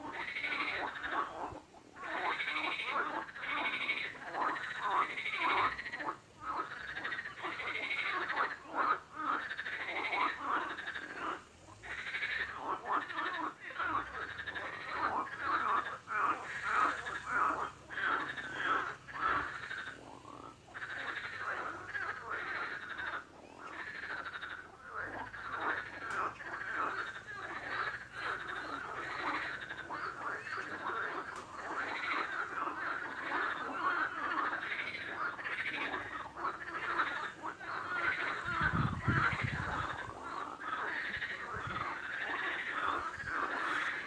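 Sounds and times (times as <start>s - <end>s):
chorus of frogs croaking: 0.0s - 44.0s.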